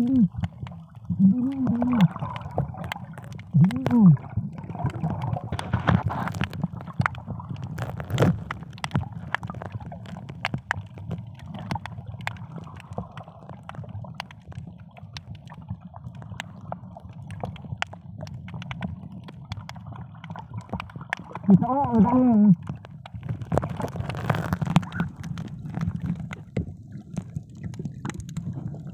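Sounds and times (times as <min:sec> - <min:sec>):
muffled underwater rumble: 0:00.0 - 0:28.9
sharp clicks and crackles: 0:00.0 - 0:28.9.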